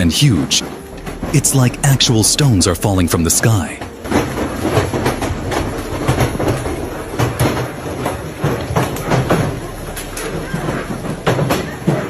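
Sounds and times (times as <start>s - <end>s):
hailstones clattering: 0.0s - 12.0s.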